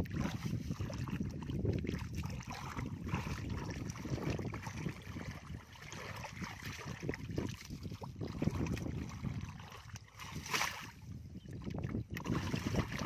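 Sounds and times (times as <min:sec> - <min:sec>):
hands squelching through wet mud: 0:00.0 - 0:13.0
wind on microphone: 0:00.0 - 0:13.0.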